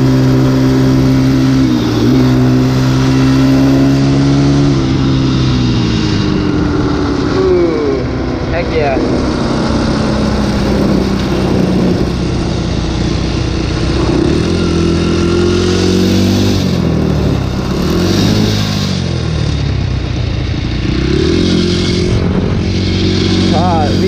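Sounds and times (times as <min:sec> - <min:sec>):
dirt bike engine revving: 0:00.0 - 0:24.0
wind rushing past microphone: 0:00.2 - 0:18.8, 0:20.4 - 0:24.0.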